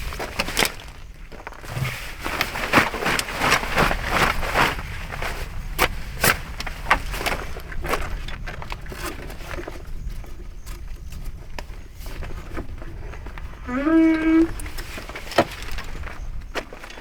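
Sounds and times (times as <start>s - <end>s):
camping gear knocking and rustling: 0.0s - 17.0s.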